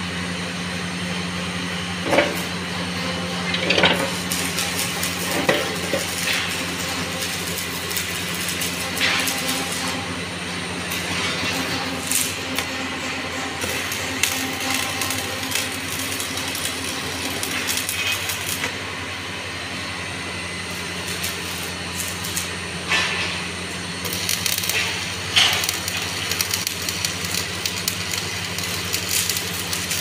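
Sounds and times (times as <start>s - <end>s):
low electrical hum: 0.0s - 30.0s
welding arc crackling: 1.7s - 30.0s.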